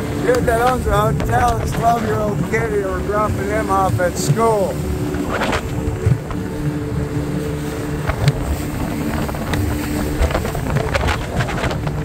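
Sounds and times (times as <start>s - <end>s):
motorboat engine running: 0.0s - 12.0s
wind buffeting microphone: 0.0s - 12.0s.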